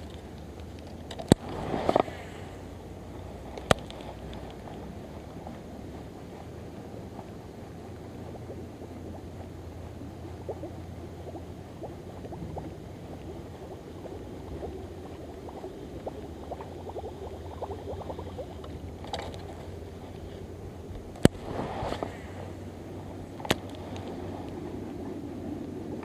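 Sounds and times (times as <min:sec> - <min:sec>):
lure ticking and water sounds: 0:00.0 - 0:26.0
wind rumbling on microphone: 0:00.0 - 0:26.0.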